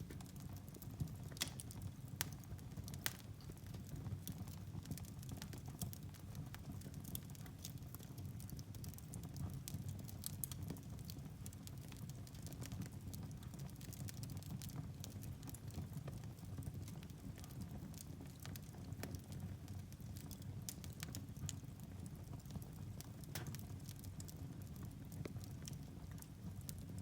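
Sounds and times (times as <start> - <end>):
fire rumbling: 0.0 - 27.0
logs crackling and popping: 0.0 - 27.0.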